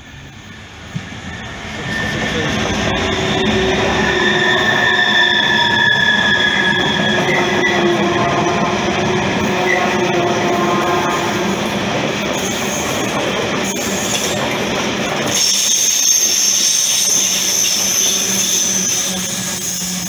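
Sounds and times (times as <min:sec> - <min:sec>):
high steady squeal: 0:00.0 - 0:11.6, 0:15.3 - 0:20.0
train wheels rumbling and clattering: 0:00.0 - 0:20.0.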